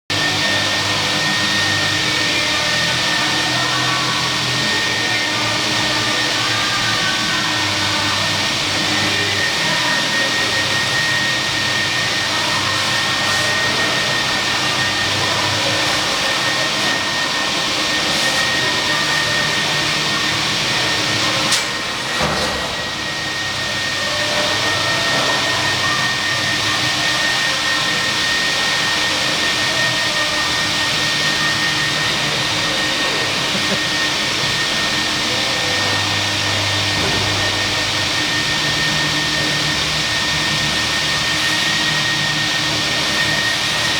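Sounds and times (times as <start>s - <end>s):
high machine whine: 0.1s - 43.9s
washer machine spray rush: 0.1s - 43.9s.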